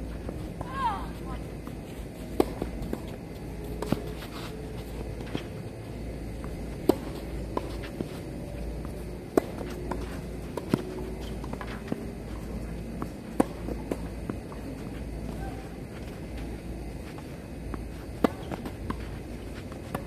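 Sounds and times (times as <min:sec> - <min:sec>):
rackets striking tennis ball: 0:00.2 - 0:05.6, 0:06.3 - 0:20.0.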